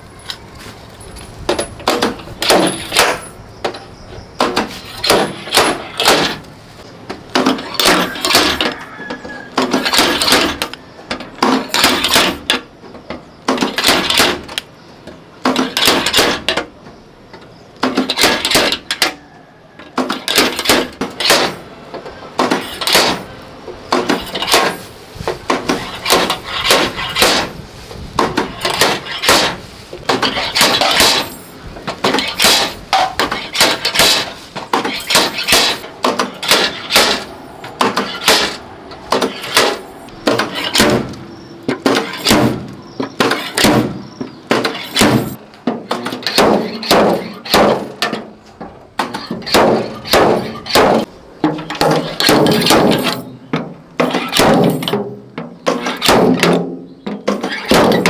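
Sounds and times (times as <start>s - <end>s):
sharp knocks and clatters: 1.2s - 19.2s, 19.9s - 58.0s.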